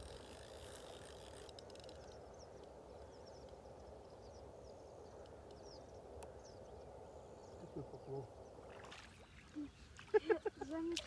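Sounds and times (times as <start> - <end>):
low steady hiss: 0.0 - 11.0
distant birds chirping: 1.3 - 10.8.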